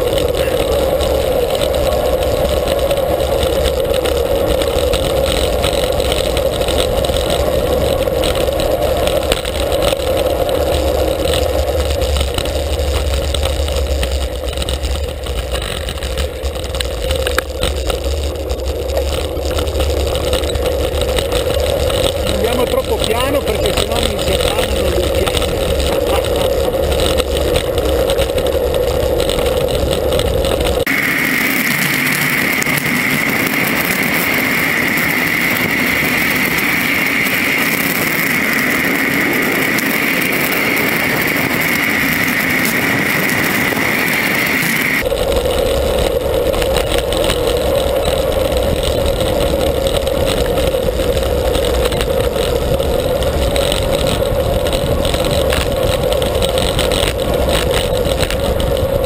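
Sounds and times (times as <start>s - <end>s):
road noise: 0.0s - 59.0s
wind rush: 0.0s - 59.0s.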